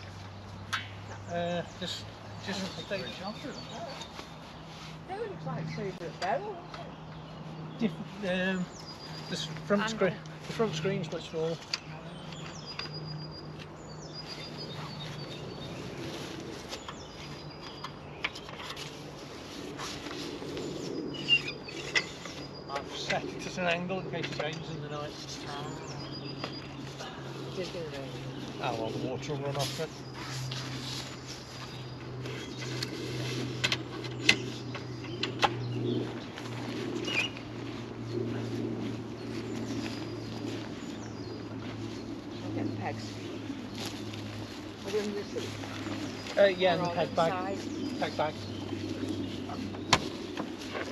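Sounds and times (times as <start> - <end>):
birds singing: 0.0 - 50.9
steady low hum: 0.0 - 50.9.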